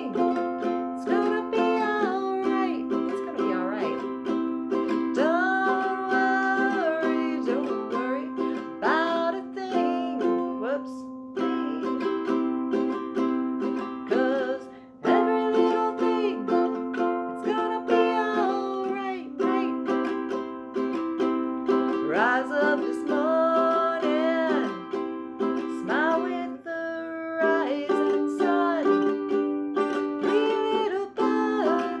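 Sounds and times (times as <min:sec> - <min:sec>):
acoustic chords strummed: 0:00.0 - 0:32.0
person singing: 0:00.0 - 0:32.0.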